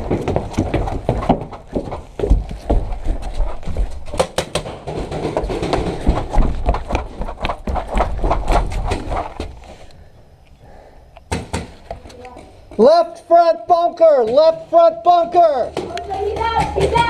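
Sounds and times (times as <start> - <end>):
running footsteps on wooden boards: 0.0 - 9.9, 11.3 - 17.0.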